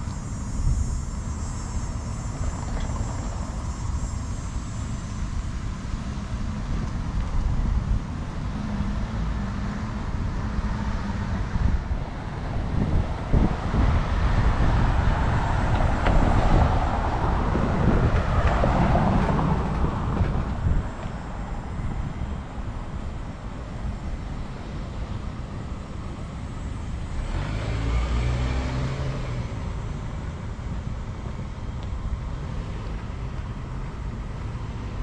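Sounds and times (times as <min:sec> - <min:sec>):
car passing: 0:00.0 - 0:35.0
street traffic rumble: 0:00.0 - 0:35.0.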